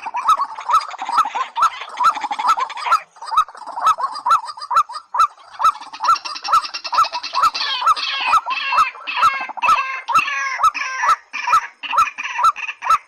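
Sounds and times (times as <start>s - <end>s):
marsh birds calling: 0.0s - 13.0s.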